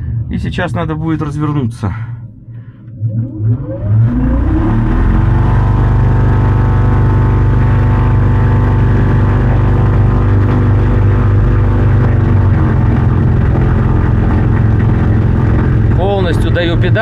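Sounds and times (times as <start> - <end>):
electric motor and propeller whine: 3.3 - 17.0.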